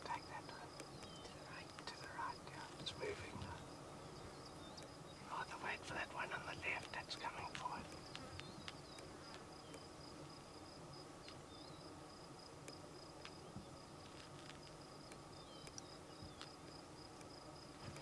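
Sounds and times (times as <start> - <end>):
faint insect chirps: 0.0 - 18.0.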